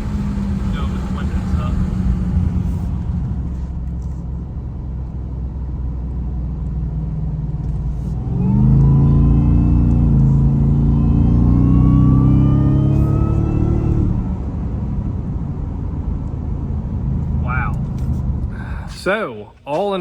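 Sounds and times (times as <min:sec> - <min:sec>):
supercharger whine: 0:00.0 - 0:19.0
car engine rumbling: 0:00.0 - 0:20.0.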